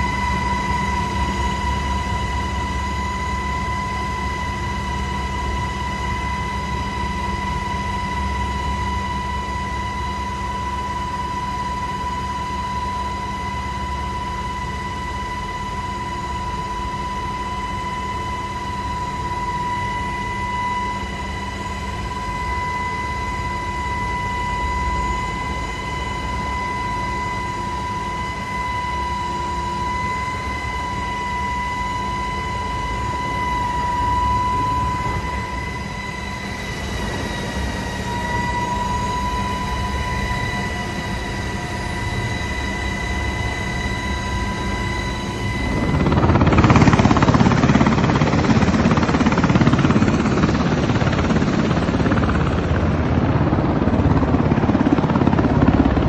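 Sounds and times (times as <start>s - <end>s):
helicopter engine rumble: 0.0s - 56.0s
helicopter high whine: 0.0s - 56.0s.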